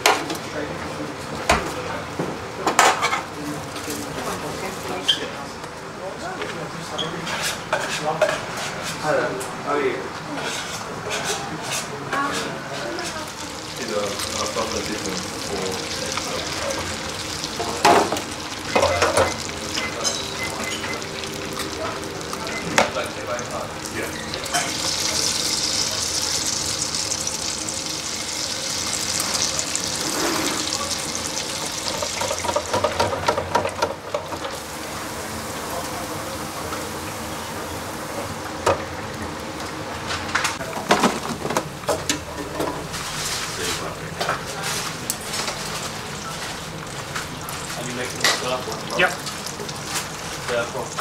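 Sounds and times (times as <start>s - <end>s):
oil sizzling in a deep fryer: 1.5s - 5.3s, 10.4s - 51.0s.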